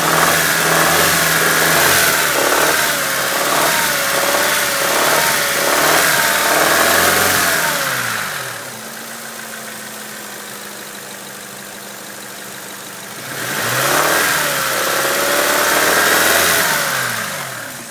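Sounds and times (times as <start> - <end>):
car engine idling and revving: 0.0 - 17.9
engine knocking: 0.0 - 17.9.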